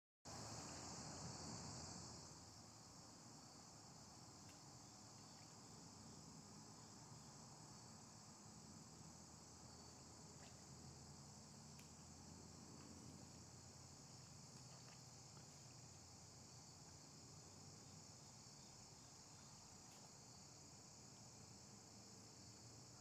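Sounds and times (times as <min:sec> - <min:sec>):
insect chorus trilling: 0:00.3 - 0:23.0.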